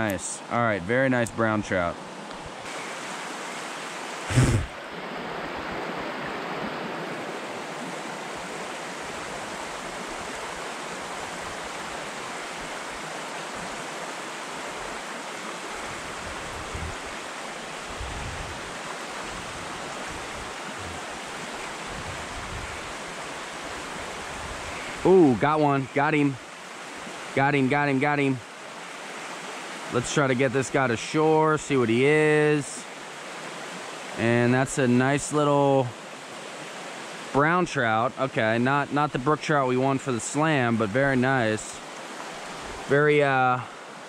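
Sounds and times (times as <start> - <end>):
creek water running over rocks: 0.0 - 44.0.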